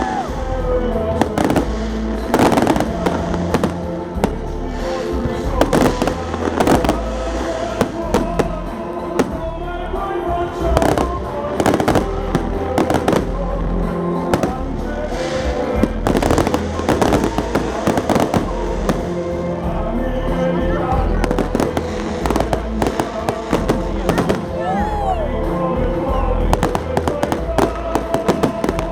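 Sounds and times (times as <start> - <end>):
fireworks bangs and crackles: 0.0 - 28.9
music playing: 0.0 - 28.9.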